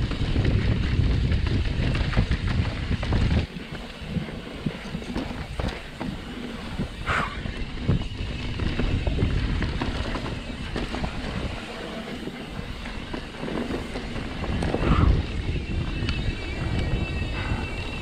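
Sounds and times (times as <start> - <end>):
bike knocks and rattles: 0.0 - 17.0
tyres rumbling on dirt: 0.0 - 18.0
wind buffeting microphone: 0.0 - 18.0.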